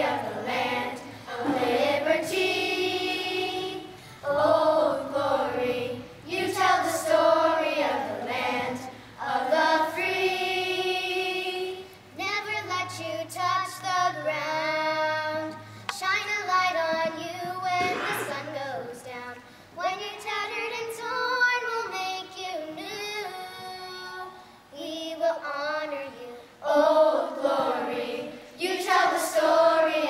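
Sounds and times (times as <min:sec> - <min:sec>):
girls singing together: 0:00.0 - 0:30.0.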